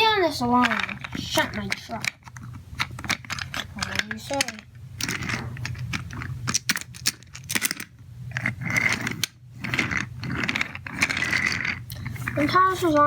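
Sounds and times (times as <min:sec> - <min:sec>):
wooden toy trains clacking: 0:00.4 - 0:13.0.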